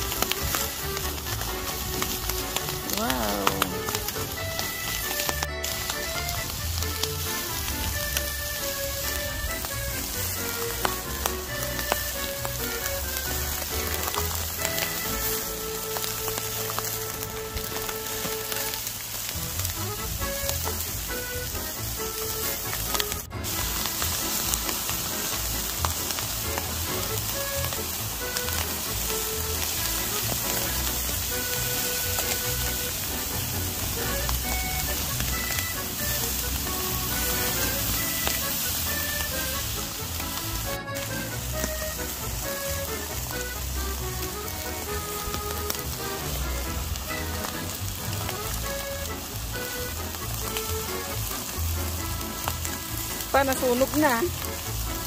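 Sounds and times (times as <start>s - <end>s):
chicken sizzling on a grill: 0.0s - 55.0s.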